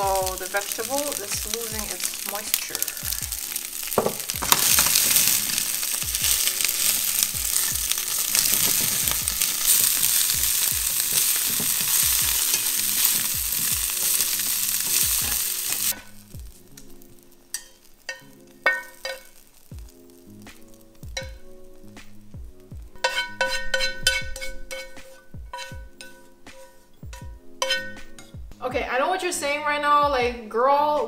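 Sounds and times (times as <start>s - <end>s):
vegetables sizzling in hot oil: 0.0s - 28.6s.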